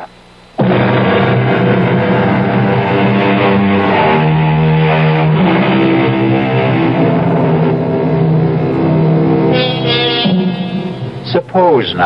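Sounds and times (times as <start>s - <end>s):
loud sustained music chords: 0.6s - 12.0s.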